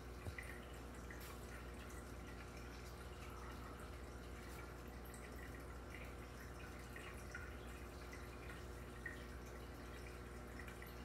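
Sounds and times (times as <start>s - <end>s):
low pump hum: 0.0s - 11.0s
water trickling and dripping: 0.0s - 11.0s.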